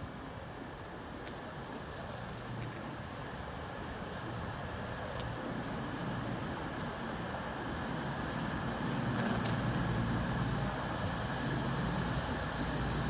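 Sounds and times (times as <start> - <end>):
train engines and wheels rumbling: 0.0 - 13.0.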